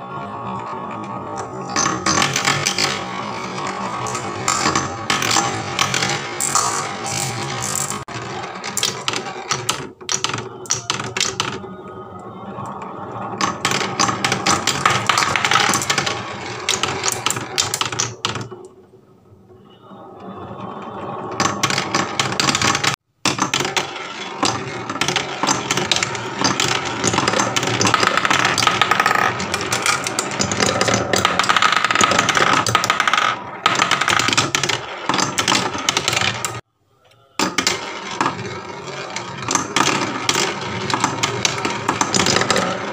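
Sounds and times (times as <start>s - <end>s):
marbles rattling down wooden tracks: 1.5s - 11.6s, 13.4s - 18.5s, 21.4s - 36.6s, 37.4s - 42.9s.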